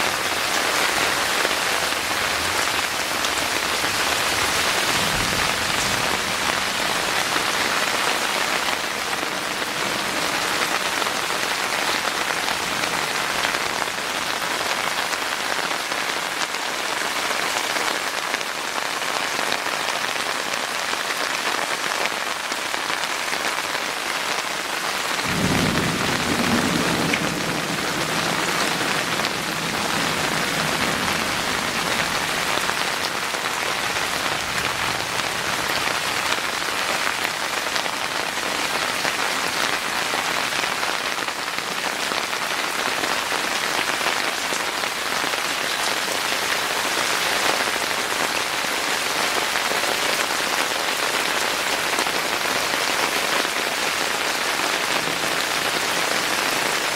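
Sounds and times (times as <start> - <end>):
heavy rain on hard surfaces: 0.0 - 56.9.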